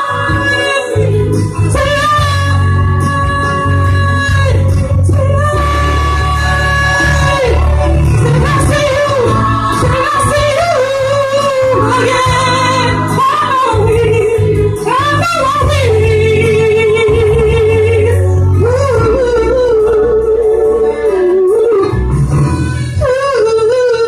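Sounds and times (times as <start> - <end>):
instrumental accompaniment with bass: 0.0 - 24.0
woman singing with vibrato: 0.0 - 24.0.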